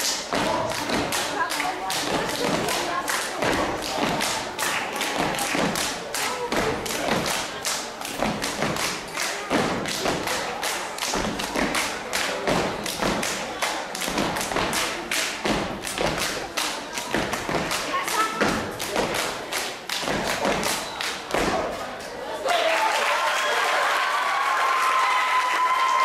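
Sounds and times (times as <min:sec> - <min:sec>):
stomps and hand slaps: 0:00.0 - 0:21.8.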